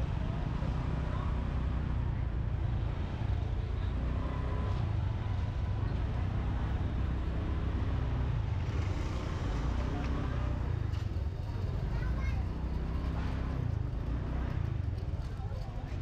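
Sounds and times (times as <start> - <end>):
street market chatter: 0.0 - 16.0.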